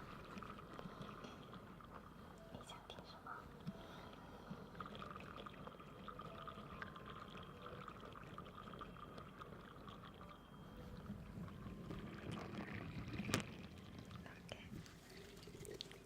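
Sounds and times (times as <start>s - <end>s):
faint liquid sounds: 0.0s - 16.0s.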